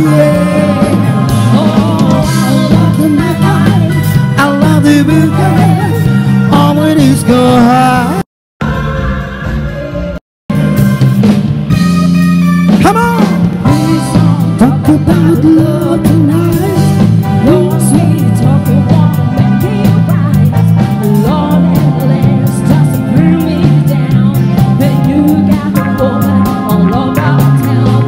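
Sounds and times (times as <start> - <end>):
person singing: 0.0 - 10.2, 12.8 - 28.0
live band playing dance music: 0.0 - 28.0.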